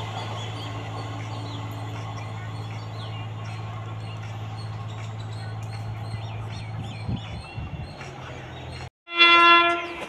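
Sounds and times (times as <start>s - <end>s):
birds chirping: 0.0s - 8.9s.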